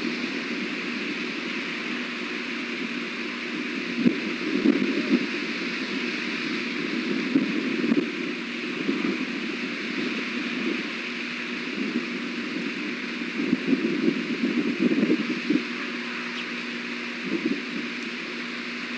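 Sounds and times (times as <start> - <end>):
constant hiss: 0.0 - 18.9
wind buffeting microphone: 0.0 - 18.9.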